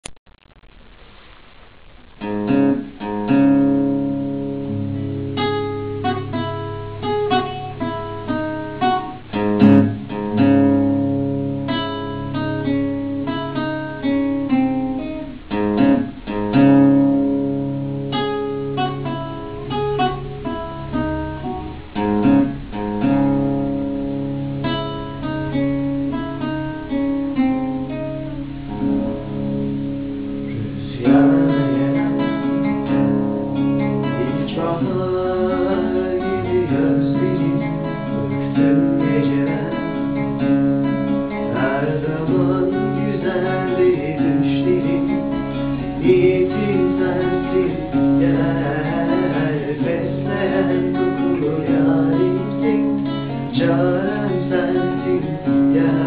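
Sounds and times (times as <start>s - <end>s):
acoustic guitar: 0.0s - 56.0s
long-necked plucked string instrument: 2.3s - 56.0s.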